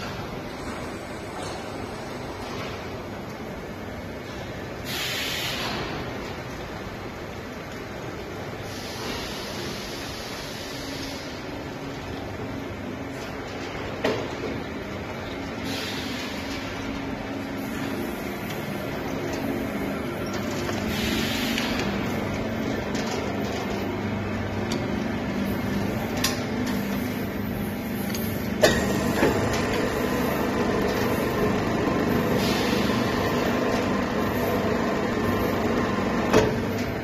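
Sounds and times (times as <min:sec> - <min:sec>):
machinery humming: 0:05.6 - 0:37.0.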